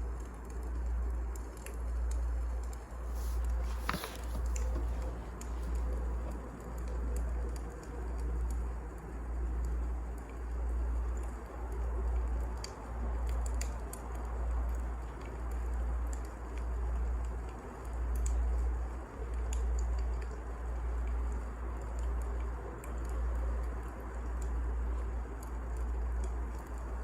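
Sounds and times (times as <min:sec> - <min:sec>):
low fire rumble: 0:00.0 - 0:27.0
wood fire crackling: 0:00.0 - 0:27.0.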